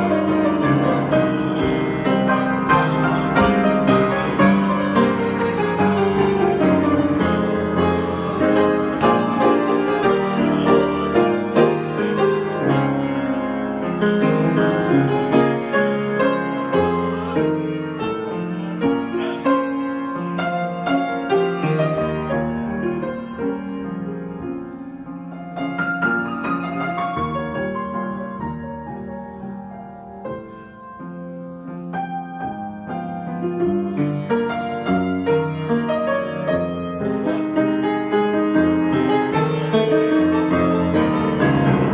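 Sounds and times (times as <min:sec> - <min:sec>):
solo piano improvisation: 0:00.0 - 0:41.9.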